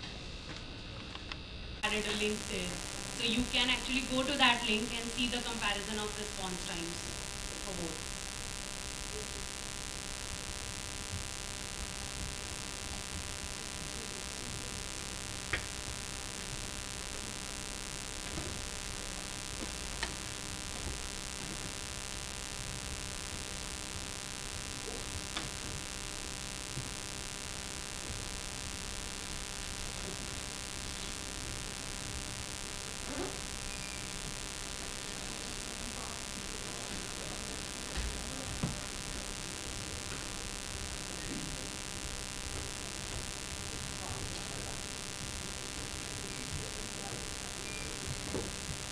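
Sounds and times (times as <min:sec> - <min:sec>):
electrical mains hum with hiss: 0:00.0 - 0:48.9.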